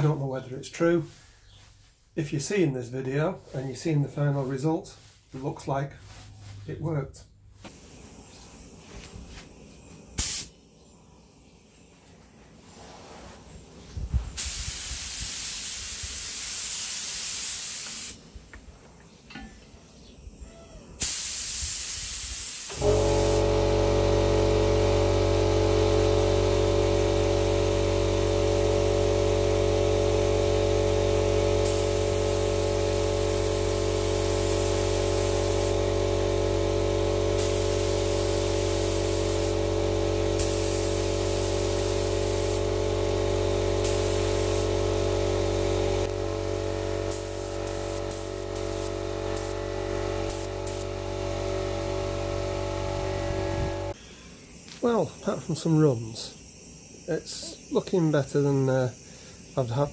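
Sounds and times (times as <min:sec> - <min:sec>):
air compressor humming: 0:07.5 - 0:59.9
spray gun hissing: 0:07.6 - 0:18.2, 0:20.2 - 0:59.9.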